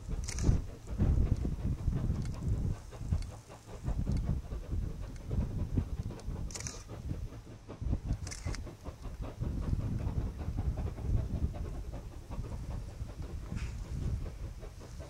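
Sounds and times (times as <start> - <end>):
distant steam locomotives chuffing: 0.0 - 15.0.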